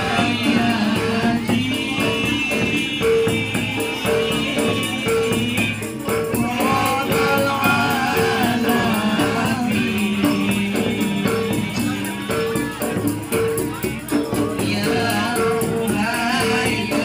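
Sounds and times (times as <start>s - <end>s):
percussion ensemble music: 0.0s - 17.0s.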